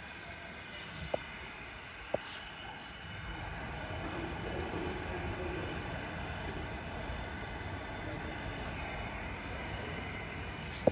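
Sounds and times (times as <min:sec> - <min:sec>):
torch flame hissing: 0:00.0 - 0:10.9.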